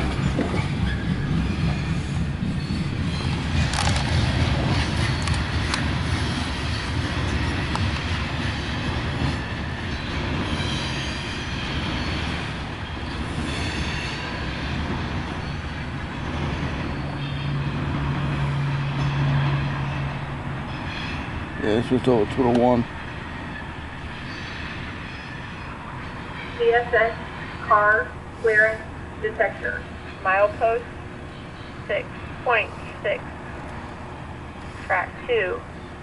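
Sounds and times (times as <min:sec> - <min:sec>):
freight train cars rumbling past: 0:00.0 - 0:36.0.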